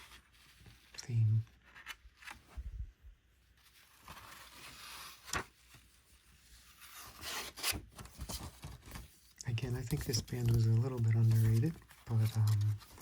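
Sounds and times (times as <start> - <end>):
paper rubbing and rustling: 0.0 - 2.6, 3.4 - 13.0.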